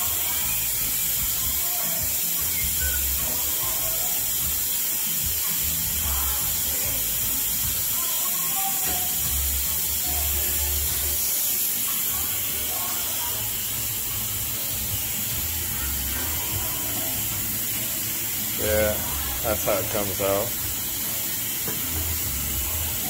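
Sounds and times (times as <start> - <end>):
pressure cooker steam hiss: 0.0 - 23.0.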